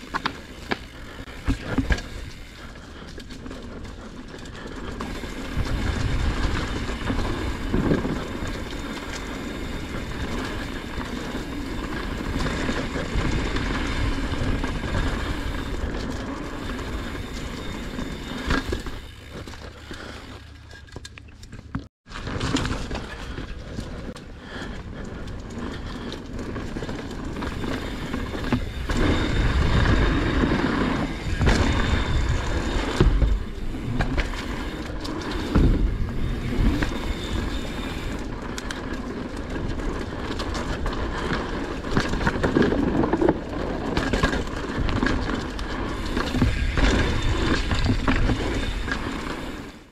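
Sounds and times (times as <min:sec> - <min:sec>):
bike jolting over bumps: 0:00.0 - 0:49.9
bike tyres rolling over dirt: 0:00.0 - 0:49.9.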